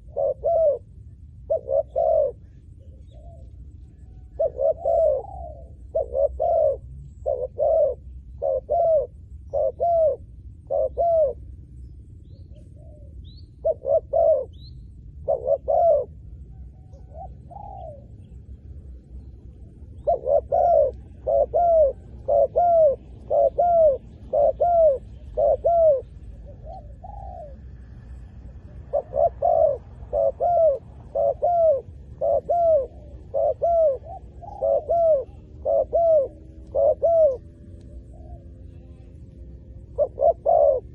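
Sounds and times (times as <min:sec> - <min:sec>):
dove cooing: 0:00.0 - 0:11.6, 0:12.2 - 0:40.9.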